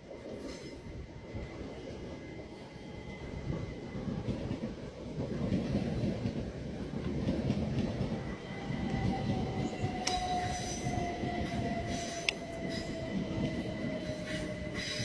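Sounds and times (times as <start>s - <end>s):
train rumbling along track: 0.0s - 15.0s.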